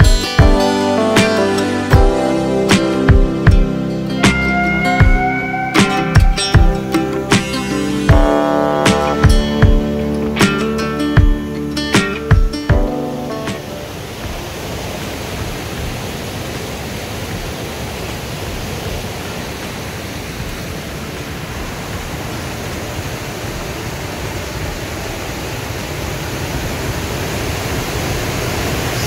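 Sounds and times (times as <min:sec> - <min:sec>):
white water rushing: 0:00.0 - 0:29.0.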